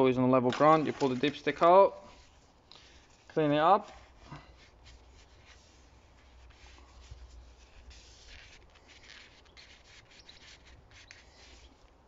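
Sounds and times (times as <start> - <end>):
cloth rubbing dipstick: 2.0 - 11.9.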